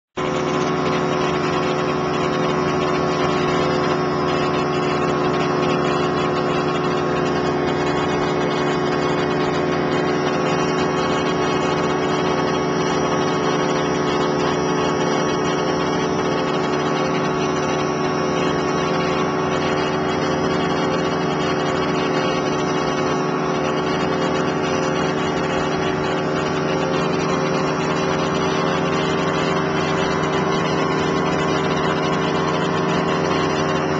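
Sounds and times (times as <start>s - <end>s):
machine droning: 0.2s - 33.9s.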